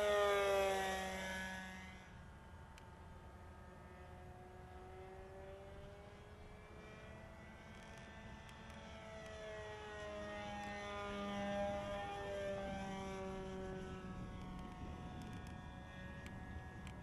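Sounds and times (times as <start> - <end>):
model plane engine buzzing: 0.0 - 17.0.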